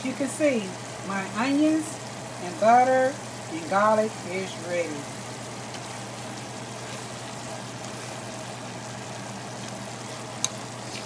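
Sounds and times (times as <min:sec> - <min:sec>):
onions sizzling in butter: 0:00.0 - 0:11.0.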